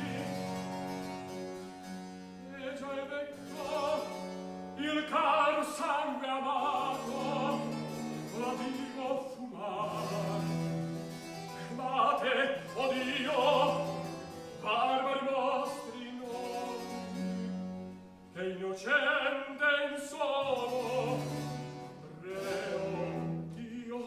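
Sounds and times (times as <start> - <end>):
tenor singing opera: 0.0 - 1.3, 2.4 - 17.5, 18.3 - 24.0.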